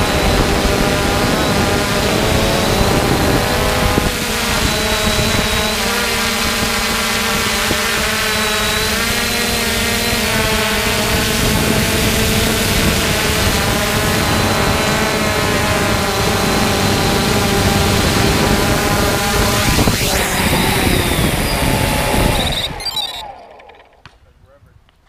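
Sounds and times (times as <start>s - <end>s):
thin high whine: 0.0s - 24.1s
drone propellers whirring: 0.0s - 24.2s.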